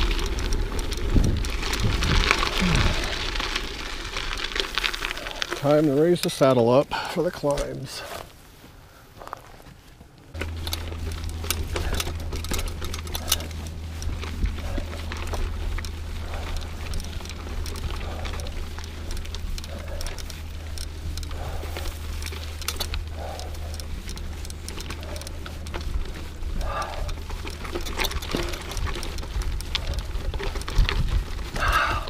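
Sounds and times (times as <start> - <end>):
low rumble: 0.0 - 5.6, 10.3 - 32.0
bike clicks and rattles: 0.0 - 8.4, 9.2 - 32.0
bike tyres on dirt and stones: 0.0 - 32.0.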